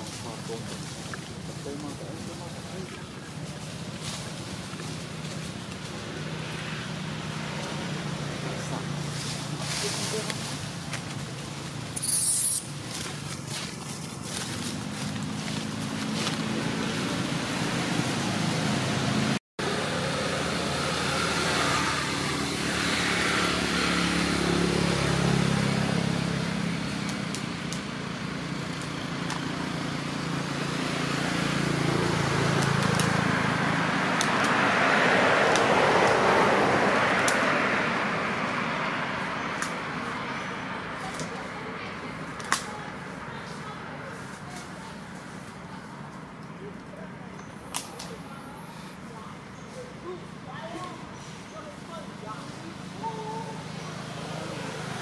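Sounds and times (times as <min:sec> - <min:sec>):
motor vehicle engine hum: 0:00.0 - 0:55.0.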